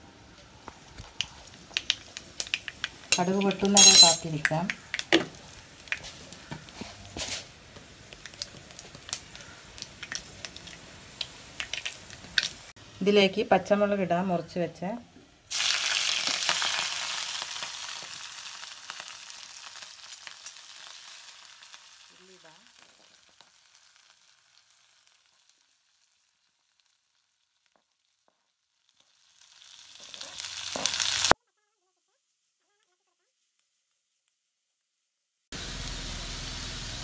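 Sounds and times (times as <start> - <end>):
chillies sizzling in hot oil: 0.1 - 31.4, 32.2 - 34.4, 35.5 - 37.0
onions sizzling: 0.3 - 34.4, 35.0 - 37.0.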